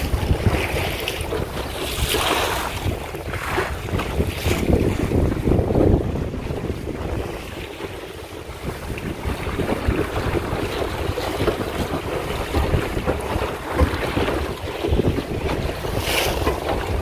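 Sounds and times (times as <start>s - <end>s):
gusty wind buffeting microphone: 0.0s - 17.0s
water slapping boat hull: 0.0s - 17.0s.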